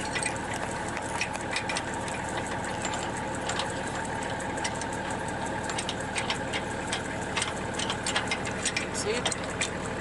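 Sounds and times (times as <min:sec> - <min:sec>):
small irregular ticks and clicks: 0:00.0 - 0:10.0
vehicle engine running: 0:00.0 - 0:10.0.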